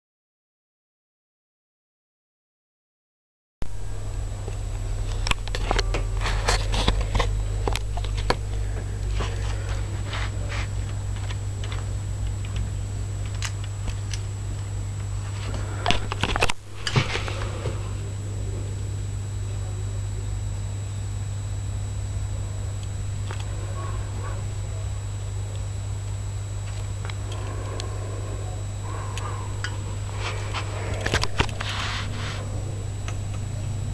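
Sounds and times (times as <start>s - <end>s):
steady low hum: 3.6s - 33.9s.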